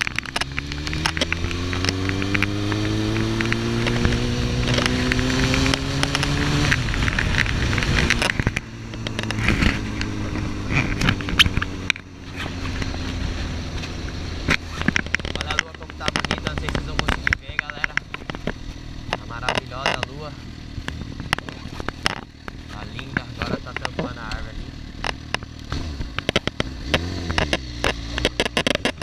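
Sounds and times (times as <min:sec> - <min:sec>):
crackling clicks: 0:00.0 - 0:29.0
motorcycle engine accelerating: 0:00.0 - 0:29.0.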